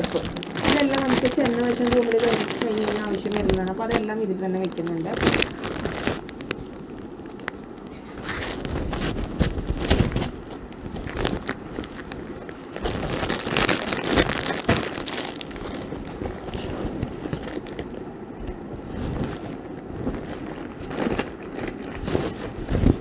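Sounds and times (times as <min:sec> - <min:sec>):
fabric rustling in nylon bag: 0:00.0 - 0:23.0.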